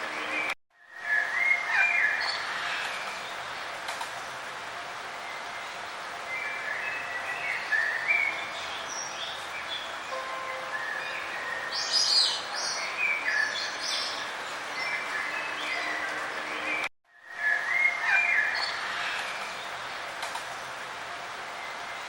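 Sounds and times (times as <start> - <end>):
songbirds chirping and warbling: 0.0 - 22.0
steady background hiss: 0.0 - 22.0.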